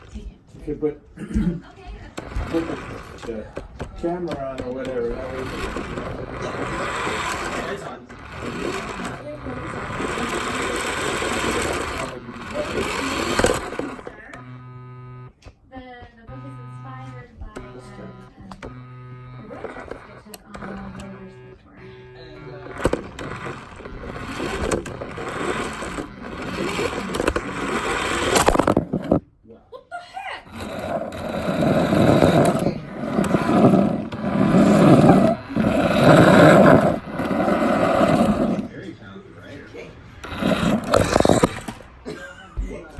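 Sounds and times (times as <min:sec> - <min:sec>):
toy car motor whirring: 0:01.7 - 0:15.4, 0:16.3 - 0:29.2, 0:30.4 - 0:39.2, 0:40.1 - 0:42.1.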